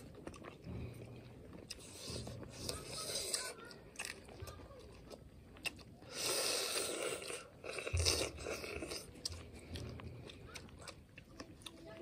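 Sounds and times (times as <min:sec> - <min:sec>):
people chewing and crunching food: 0:00.0 - 0:12.0.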